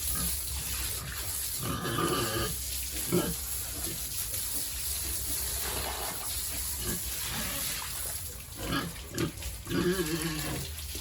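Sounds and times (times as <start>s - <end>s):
pigs grunting: 0.1s - 4.1s, 5.4s - 10.8s.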